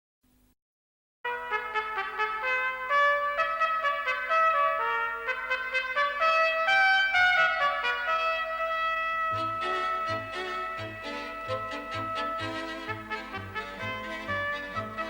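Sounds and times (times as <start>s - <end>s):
trumpet-led brass music: 1.3s - 15.0s.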